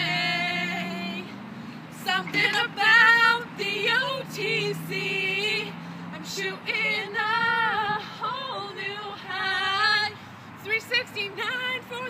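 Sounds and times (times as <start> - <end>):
women singing pop song: 0.0 - 12.0.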